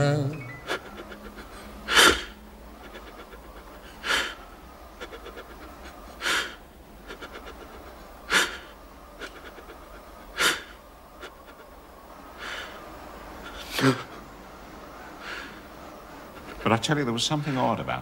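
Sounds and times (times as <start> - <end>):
heavy rhythmic breathing: 0.5 - 17.8.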